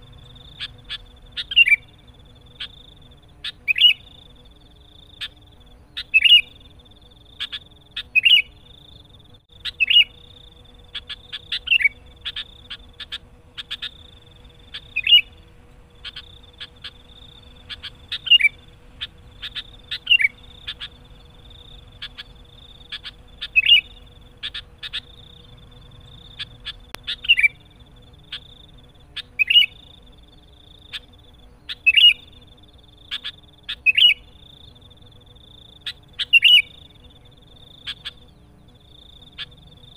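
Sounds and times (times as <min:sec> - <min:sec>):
bird calling bright phrases: 0:00.0 - 0:04.4, 0:05.0 - 0:10.3, 0:10.9 - 0:34.4.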